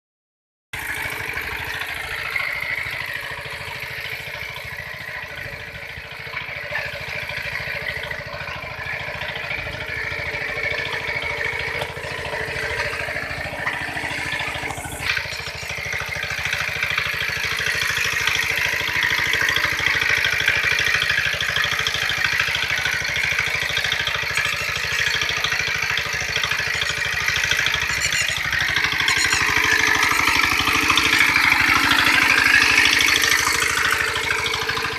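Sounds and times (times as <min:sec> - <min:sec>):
tractor diesel engine running: 0:00.8 - 0:34.9.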